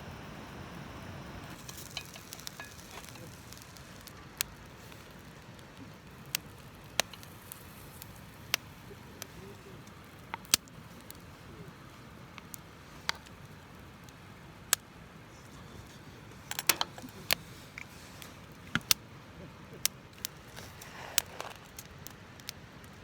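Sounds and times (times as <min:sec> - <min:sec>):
low steady rumble: 0:00.0 - 0:21.1
wood fire crackling: 0:00.0 - 0:23.0.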